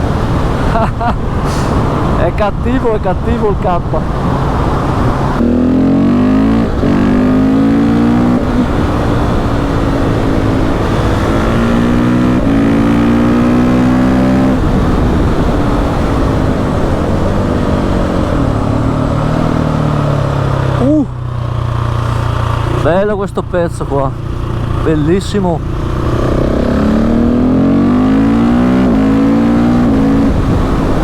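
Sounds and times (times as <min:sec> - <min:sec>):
motorcycle engine accelerating: 0:04.1 - 0:31.0.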